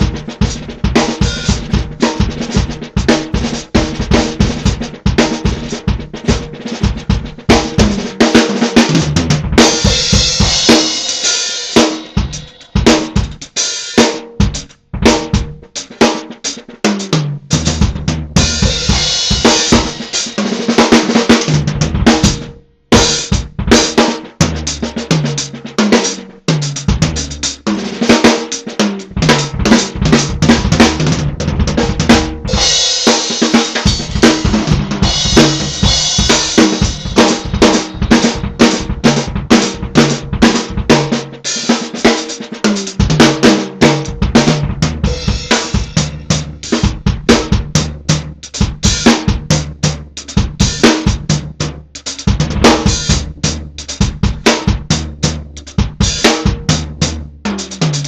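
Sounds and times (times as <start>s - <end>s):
drum kit playing: 0.0s - 58.0s.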